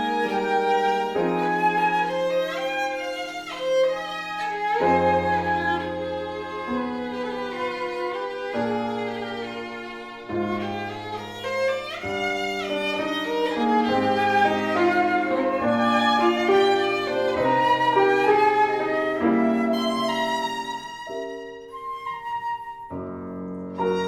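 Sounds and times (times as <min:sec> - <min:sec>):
bowed violin melody: 0:00.0 - 0:24.0.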